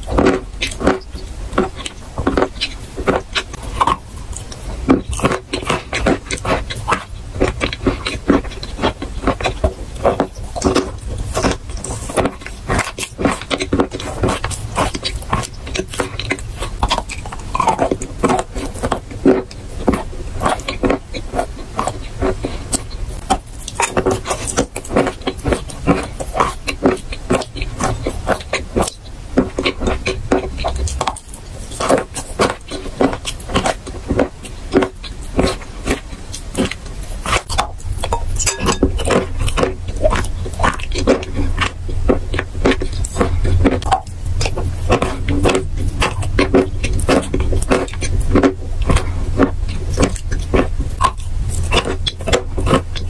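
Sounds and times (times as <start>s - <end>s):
crisp crunches of chewing chalk: 0.0s - 53.0s.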